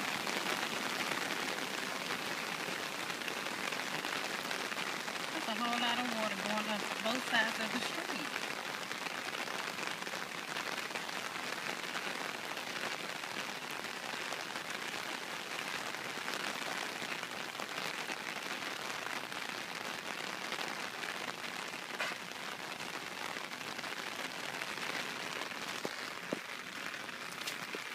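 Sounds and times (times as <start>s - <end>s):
rain falling on flooded ground: 0.0s - 27.9s.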